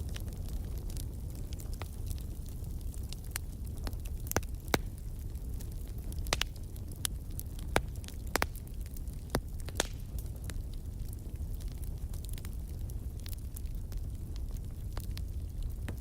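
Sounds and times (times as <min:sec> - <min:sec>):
burning wood crackling and popping: 0:00.0 - 0:16.0
rumble of flames: 0:00.0 - 0:16.0.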